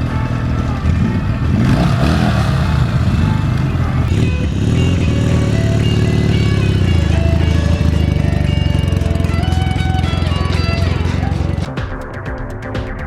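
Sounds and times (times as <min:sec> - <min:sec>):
motorcycle engine running: 0:00.0 - 0:12.0
music: 0:00.0 - 0:13.0.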